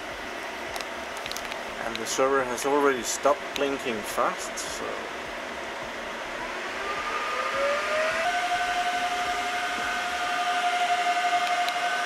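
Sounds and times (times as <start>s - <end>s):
server cooling fans whining: 0.0s - 12.0s.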